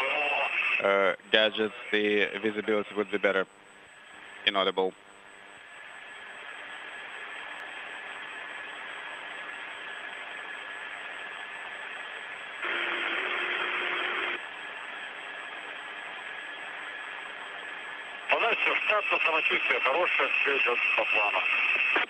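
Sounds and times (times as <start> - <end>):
radio hiss: 0.0 - 22.0
static burst with low hum: 0.0 - 22.0.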